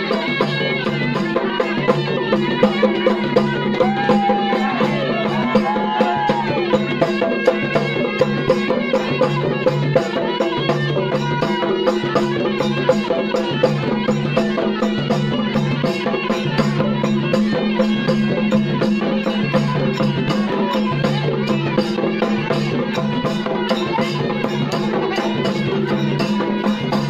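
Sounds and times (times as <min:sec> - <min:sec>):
fast steady drumbeat: 0:00.0 - 0:27.0.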